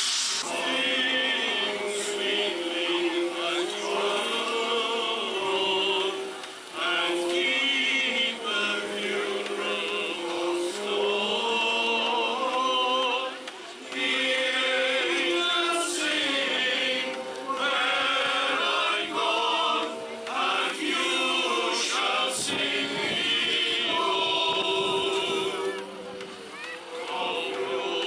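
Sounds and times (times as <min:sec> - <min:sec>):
male voice choir singing: 0:00.2 - 0:28.0.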